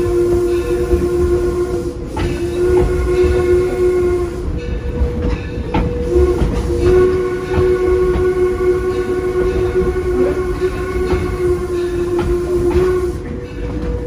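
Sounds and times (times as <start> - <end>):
steam whistle blasts: 0.0 - 4.7, 6.0 - 13.4
wheels clicking over rail joints: 0.0 - 14.0.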